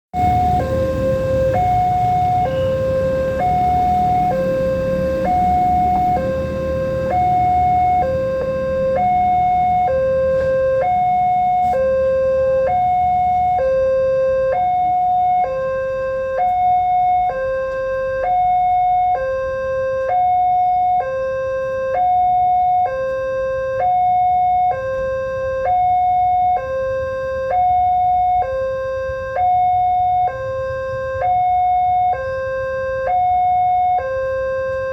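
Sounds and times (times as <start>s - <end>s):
level crossing two-tone alarm: 0.1s - 34.9s
low traffic rumble: 0.2s - 34.9s.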